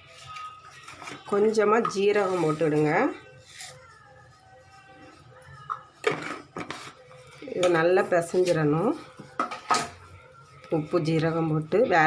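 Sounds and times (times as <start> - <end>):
faint music with held tones: 0.0 - 12.0.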